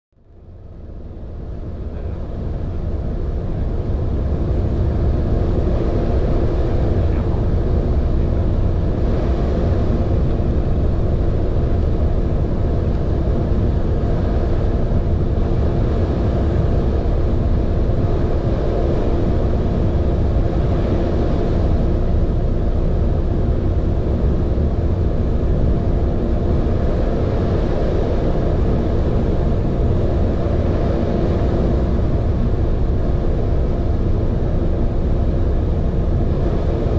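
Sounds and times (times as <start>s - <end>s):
wind and water rumble: 0.3s - 36.9s.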